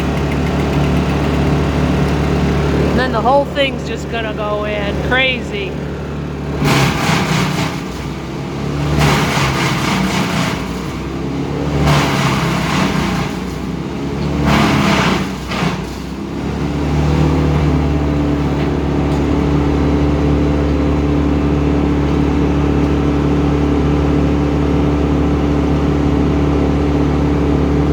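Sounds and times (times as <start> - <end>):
large engine running loudly: 0.0 - 27.9.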